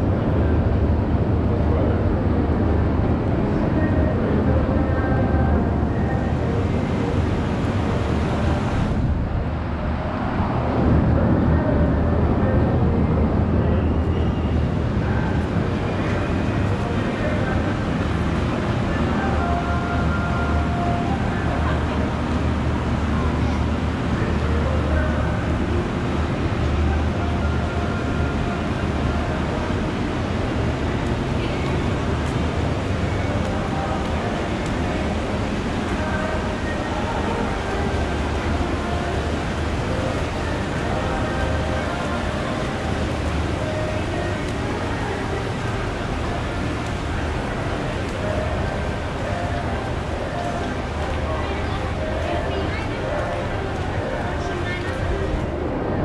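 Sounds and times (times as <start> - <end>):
shopping mall background rumble: 0.0 - 56.0.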